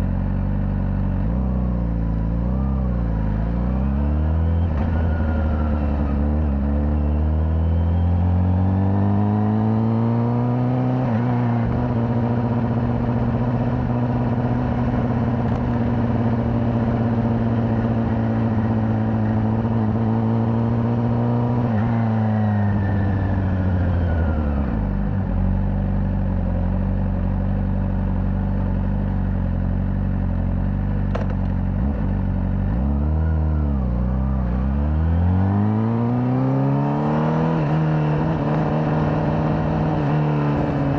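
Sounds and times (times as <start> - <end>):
motorcycle engine revving: 0.9 - 25.6, 28.2 - 40.9.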